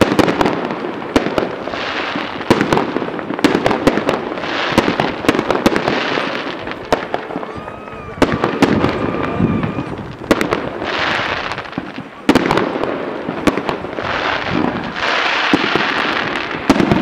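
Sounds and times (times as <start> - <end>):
fireworks cracking and popping: 0.0 - 17.0
hissing crackling fireworks: 0.0 - 17.0.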